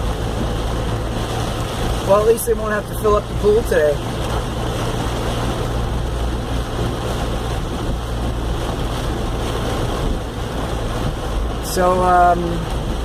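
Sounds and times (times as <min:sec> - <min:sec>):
car engine hum: 0:00.0 - 0:13.0
car splashing through water: 0:00.0 - 0:13.0
heavy rain: 0:00.0 - 0:13.0.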